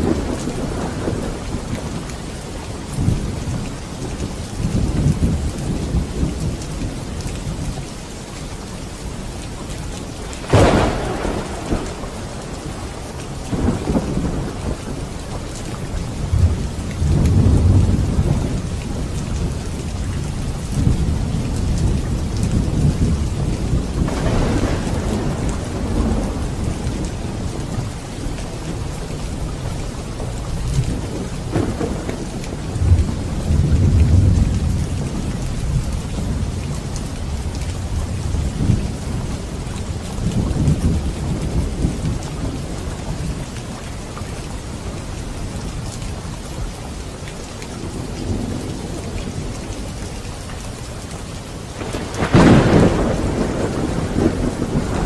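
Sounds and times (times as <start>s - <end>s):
thunder rumbling: 0.0s - 7.6s, 10.2s - 46.4s, 51.7s - 55.0s
heavy rain: 0.0s - 55.0s.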